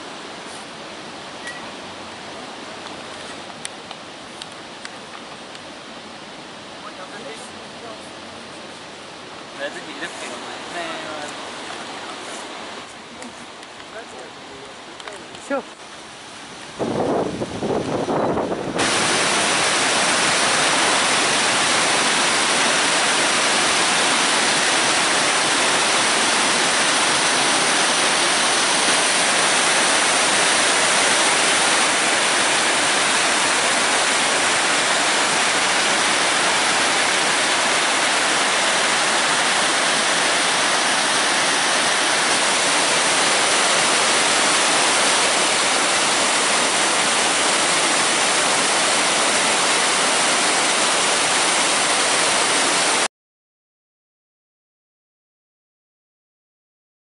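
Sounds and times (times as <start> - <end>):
water rushing over rocks: 0.0 - 53.1.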